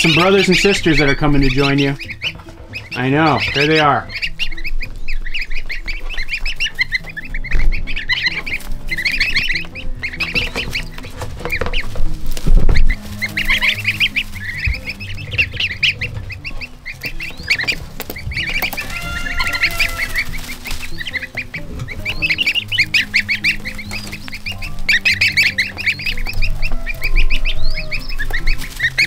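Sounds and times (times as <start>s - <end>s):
goslings peeping: 0.0s - 29.0s.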